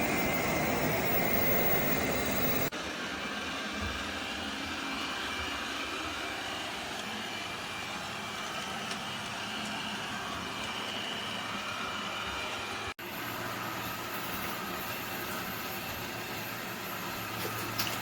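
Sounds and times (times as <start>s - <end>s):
robot vacuum whirring: 0.0s - 17.8s.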